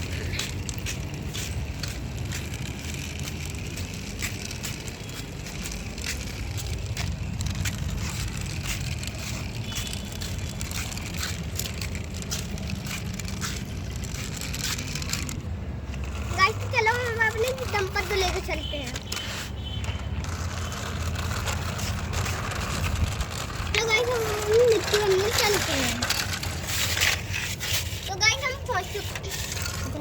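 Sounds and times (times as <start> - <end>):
toy wheels rolling over gravel: 0.0 - 30.0.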